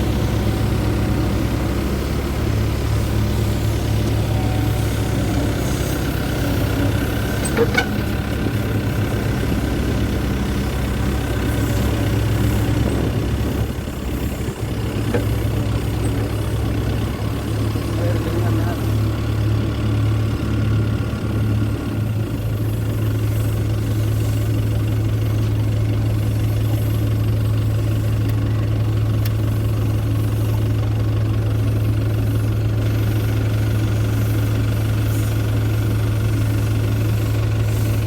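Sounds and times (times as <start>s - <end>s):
road roller engine humming: 0.0s - 38.0s.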